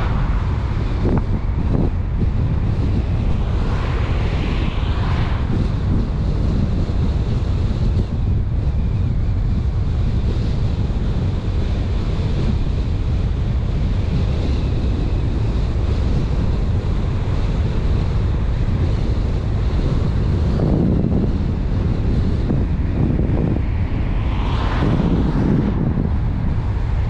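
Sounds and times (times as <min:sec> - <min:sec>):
road and tyre rumble: 0:00.0 - 0:27.0
wind buffeting microphone: 0:00.0 - 0:27.0.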